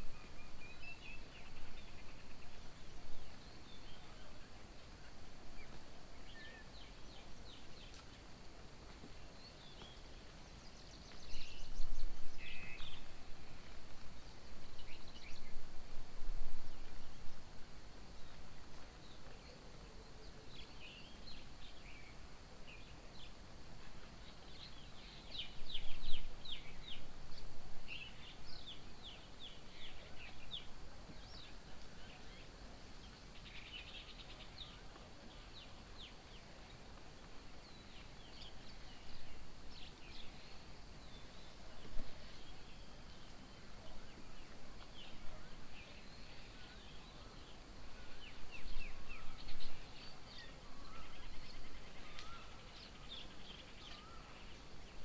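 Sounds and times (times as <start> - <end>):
low background noise: 0.0 - 55.0.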